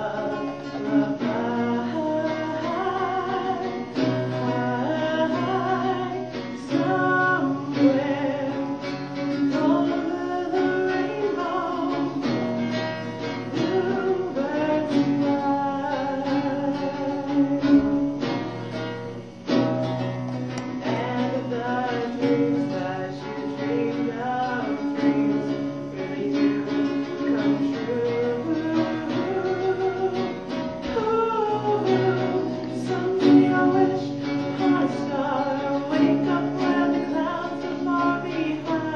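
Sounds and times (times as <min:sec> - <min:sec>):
person singing: 0:00.0 - 0:38.9
strummed acoustic guitar: 0:00.0 - 0:38.9.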